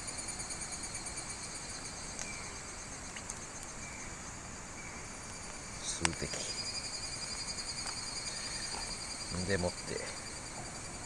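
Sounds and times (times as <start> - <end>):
insects chirping: 0.0 - 11.0
even hiss: 1.6 - 11.0.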